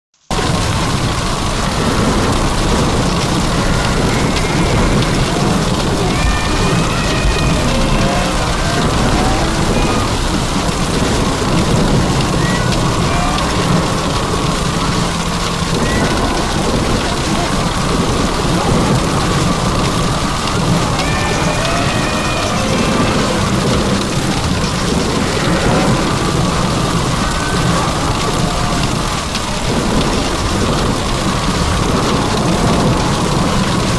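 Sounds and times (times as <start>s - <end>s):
heavy rain falling: 0.2s - 33.9s
low rumble of thunder: 0.3s - 33.9s.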